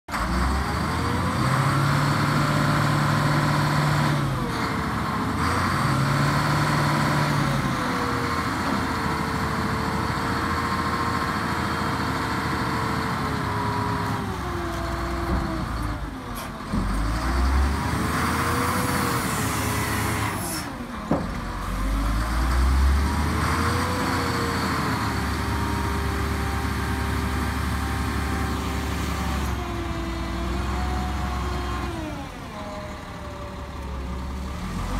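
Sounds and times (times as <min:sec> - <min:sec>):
dump truck diesel engine revving: 0:00.1 - 0:34.9.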